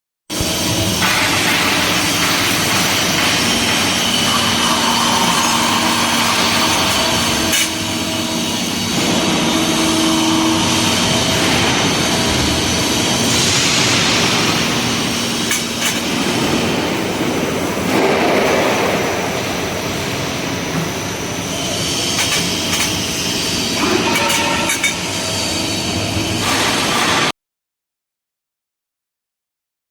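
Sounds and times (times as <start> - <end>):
bending machine running: 0.3 - 27.3.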